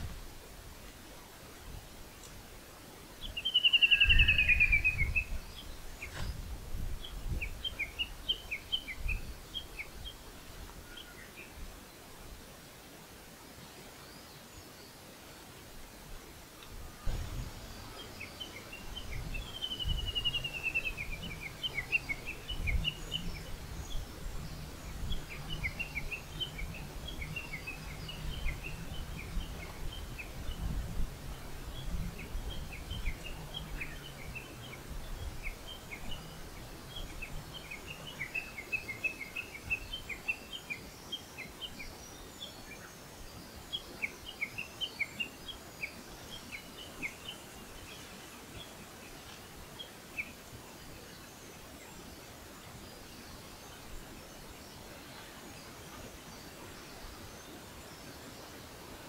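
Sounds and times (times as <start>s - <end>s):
songbirds chirping and singing: 3.1s - 12.1s, 17.1s - 58.8s.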